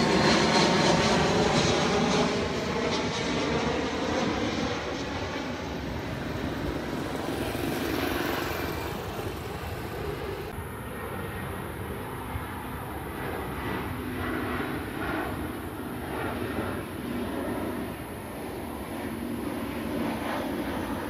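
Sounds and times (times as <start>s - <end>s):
distant jet noise: 0.0s - 21.0s
jet airliner passing overhead: 0.0s - 21.0s.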